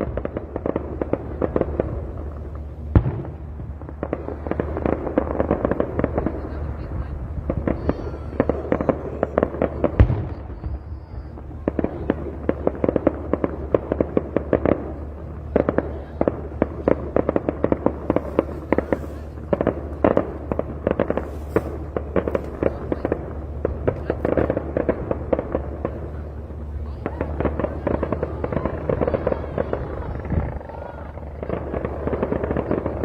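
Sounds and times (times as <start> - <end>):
fireworks cracks and bangs: 0.0 - 33.0
steady low hum: 0.0 - 33.0.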